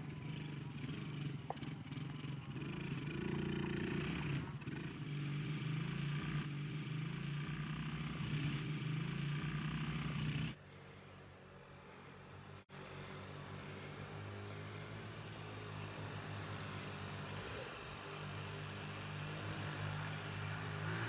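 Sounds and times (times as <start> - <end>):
quad bike engines: 0.0 - 21.0.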